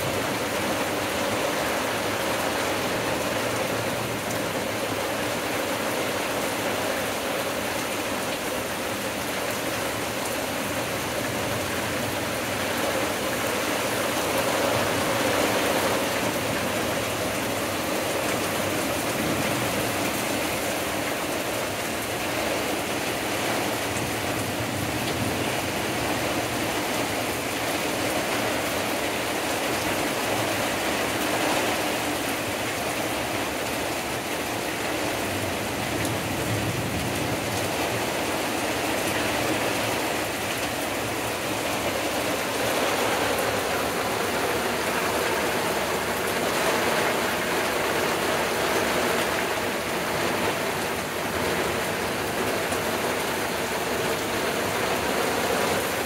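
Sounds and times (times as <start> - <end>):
heavy rain on leafy trees: 0.0 - 56.0.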